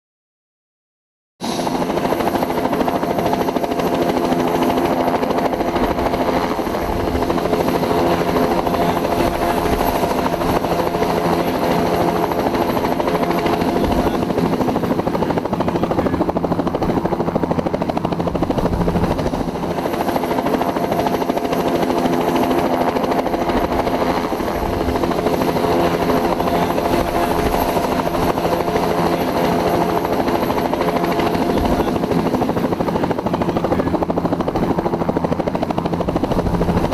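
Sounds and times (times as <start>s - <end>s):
helicopter engine whine: 1.4s - 36.9s
helicopter rotor noise: 1.4s - 36.9s.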